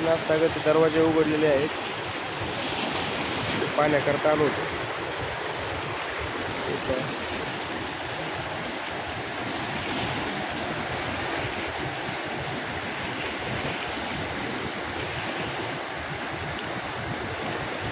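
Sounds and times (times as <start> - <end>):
water rushing through spillway: 0.0 - 17.9.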